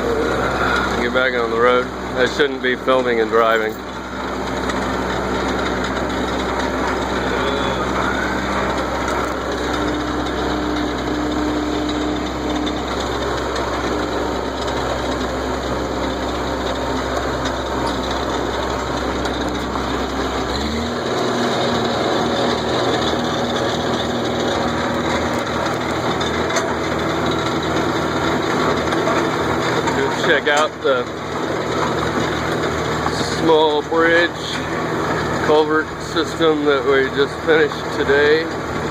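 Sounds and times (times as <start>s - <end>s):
constant rattling: 0.0s - 38.9s
tractor engine running: 0.0s - 38.9s.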